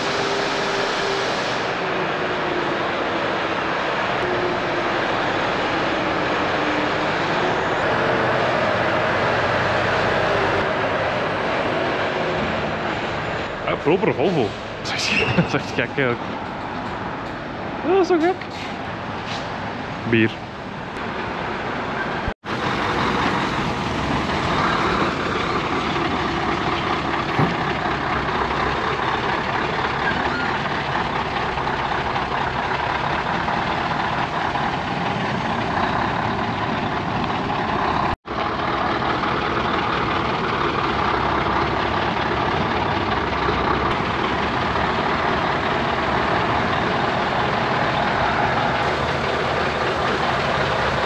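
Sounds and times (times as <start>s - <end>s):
truck engine rumbling: 0.0s - 51.0s.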